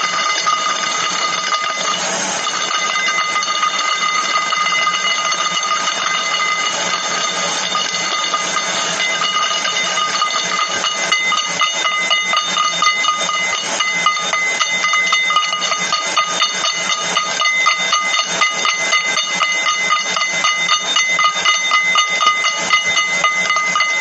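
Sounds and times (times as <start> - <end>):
rapid irregular clicking: 0.0 - 24.0
steady high-pitched tone: 0.0 - 24.0.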